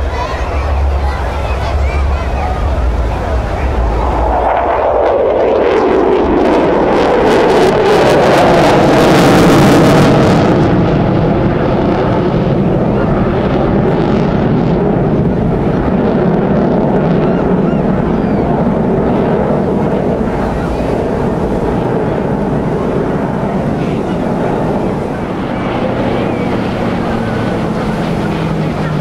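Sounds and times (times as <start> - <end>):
jet engine roar: 0.0 - 29.0
wind on microphone: 0.0 - 29.0.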